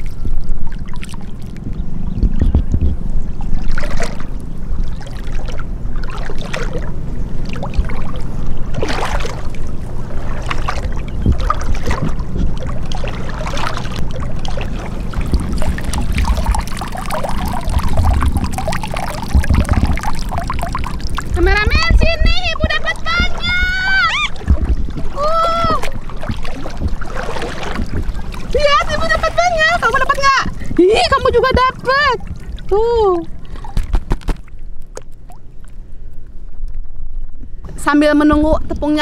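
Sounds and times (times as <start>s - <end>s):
low rumble: 0.0s - 33.9s
water splashes: 0.0s - 35.8s
water sloshing and trickling: 0.0s - 39.0s.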